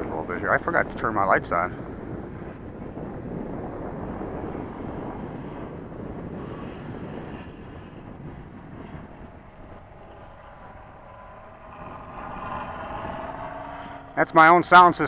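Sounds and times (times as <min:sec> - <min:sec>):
simulated engine drone: 0:00.0 - 0:15.0
wind buffeting microphone: 0:00.0 - 0:15.0.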